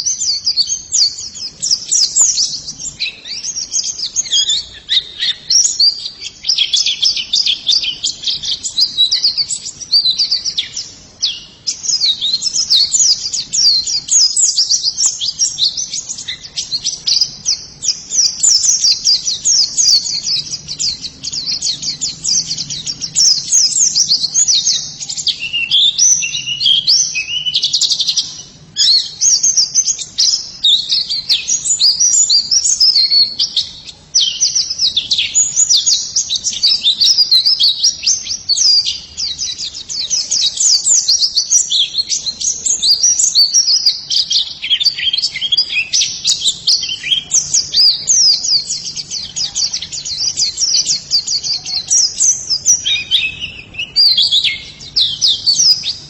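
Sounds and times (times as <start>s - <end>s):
bird twittering song: 0.0s - 56.0s.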